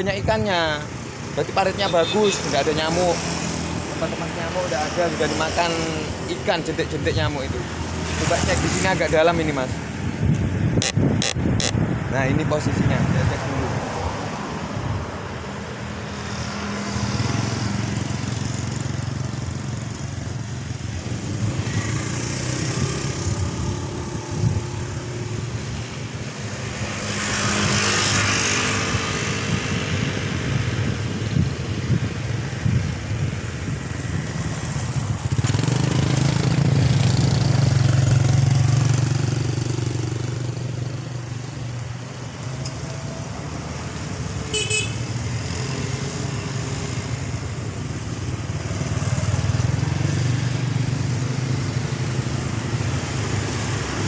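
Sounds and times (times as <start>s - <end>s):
cars passing: 0.0s - 54.0s
motorcycles passing: 0.0s - 54.0s.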